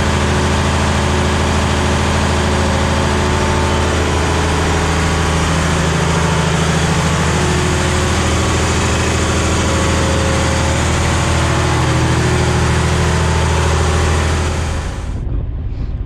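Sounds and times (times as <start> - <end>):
diesel engine running: 0.0 - 15.8.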